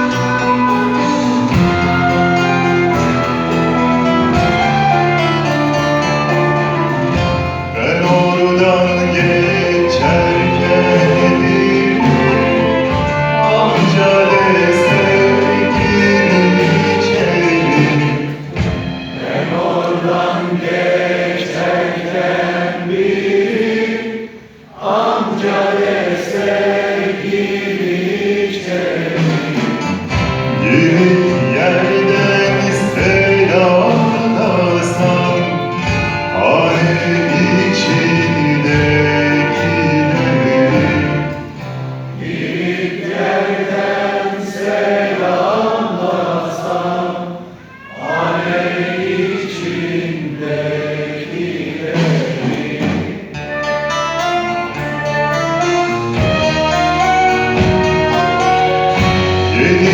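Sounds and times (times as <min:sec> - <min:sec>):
orchestra playing: 0:00.0 - 0:23.4, 0:25.5 - 0:44.2, 0:47.5 - 0:59.9
voices singing: 0:00.0 - 0:59.9.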